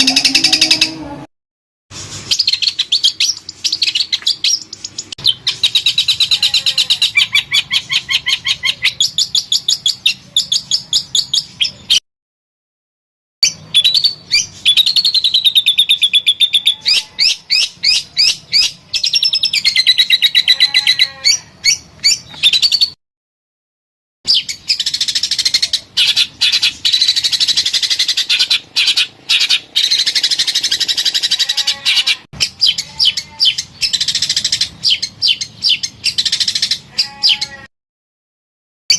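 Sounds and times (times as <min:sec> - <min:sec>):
songbird chirping and trilling: 0:00.0 - 0:01.3, 0:02.2 - 0:12.0, 0:13.4 - 0:23.0, 0:24.3 - 0:37.7.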